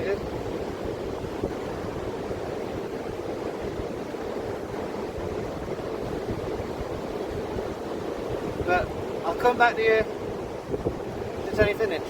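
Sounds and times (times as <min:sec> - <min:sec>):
surf washing on a beach: 0:00.0 - 0:12.0
wind rumbling on microphone: 0:00.0 - 0:12.0.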